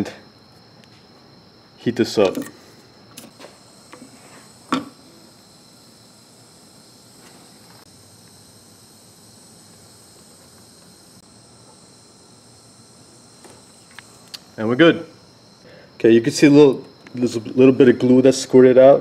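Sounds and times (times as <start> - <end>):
micro torch hissing: 0.0 - 19.0.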